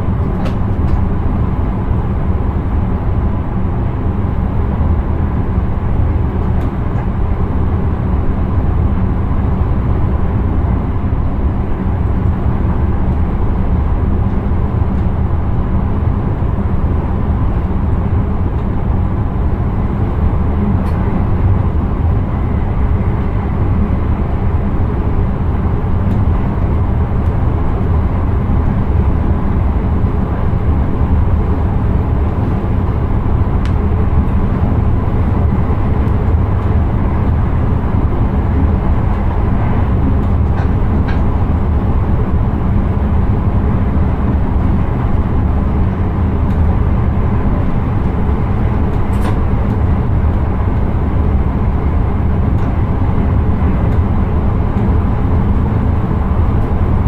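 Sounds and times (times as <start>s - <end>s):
train rumble inside cab: 0.0s - 57.0s.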